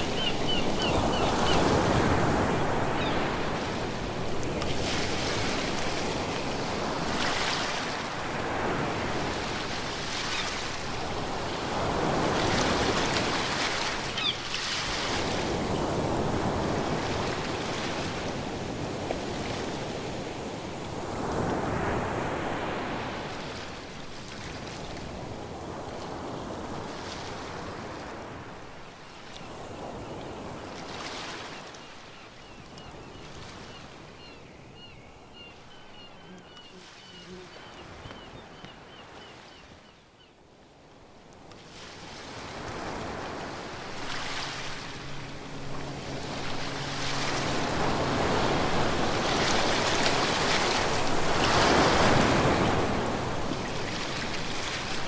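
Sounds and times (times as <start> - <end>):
ocean waves breaking: 0.0 - 28.6, 35.2 - 39.5, 41.1 - 55.0.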